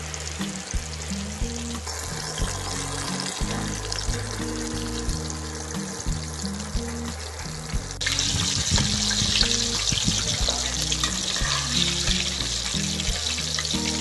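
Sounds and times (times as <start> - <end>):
background music: 0.0 - 14.0
chicken sizzling in hot oil: 0.0 - 14.0.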